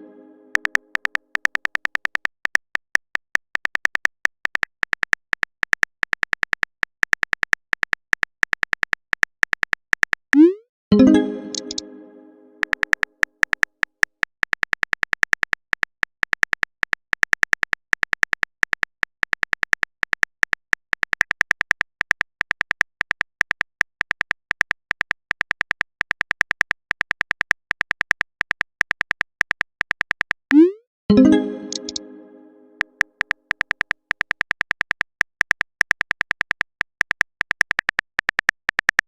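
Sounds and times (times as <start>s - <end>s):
high-pitched typing ticks: 0.5s - 10.6s, 11.5s - 11.9s, 12.6s - 32.1s, 32.8s - 39.0s.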